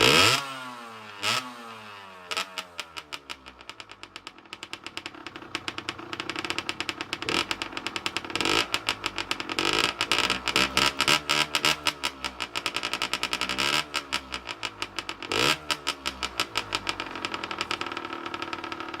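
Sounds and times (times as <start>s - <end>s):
two-stroke engine revving: 0.0s - 3.4s, 5.5s - 19.0s.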